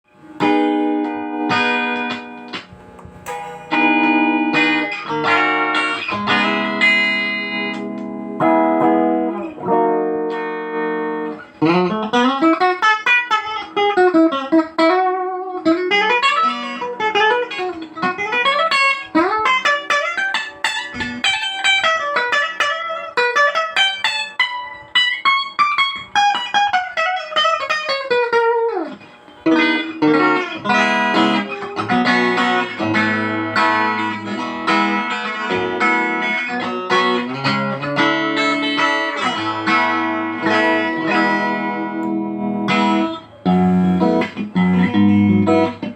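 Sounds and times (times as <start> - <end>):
clean electric guitar playing: 0.1 - 45.9.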